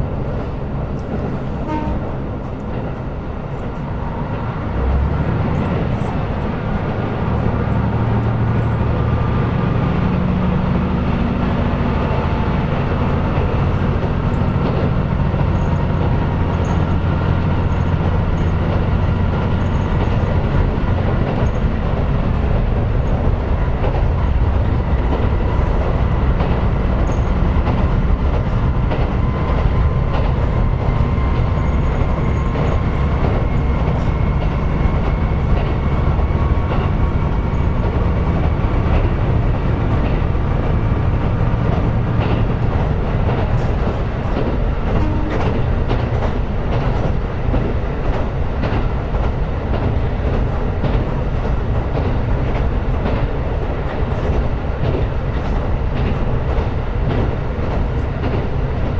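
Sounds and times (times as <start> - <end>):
train engine and wheels rumbling: 0.0 - 58.9
wheels clicking on track: 0.0 - 58.9.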